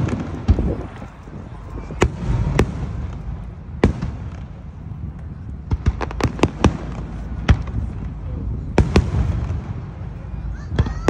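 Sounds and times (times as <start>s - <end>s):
fireworks bursting: 0.0s - 11.0s
steady low rumble: 0.0s - 11.0s.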